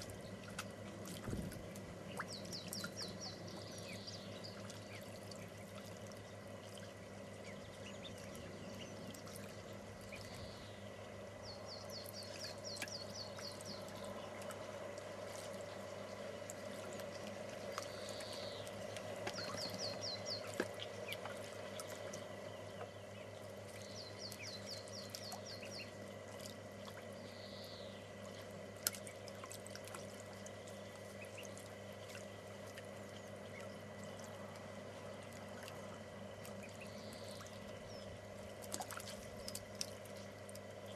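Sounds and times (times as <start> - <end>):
ducklings splashing in water: 0.0 - 40.9
faint steady hum: 0.0 - 40.9
songbird trill: 1.6 - 40.9.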